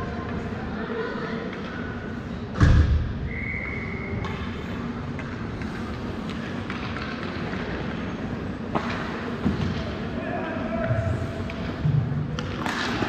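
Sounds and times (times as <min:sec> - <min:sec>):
ice hockey rink ambience: 0:00.0 - 0:13.0.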